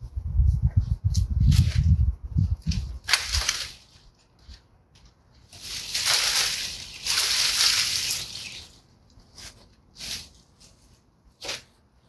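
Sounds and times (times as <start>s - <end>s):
dry leaves and canes rustling: 1.1s - 11.7s.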